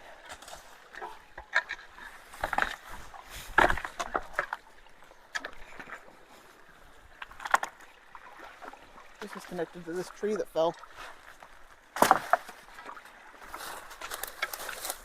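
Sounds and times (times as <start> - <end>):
rush of water: 0.0 - 15.0
water splashing and sloshing: 0.0 - 15.0.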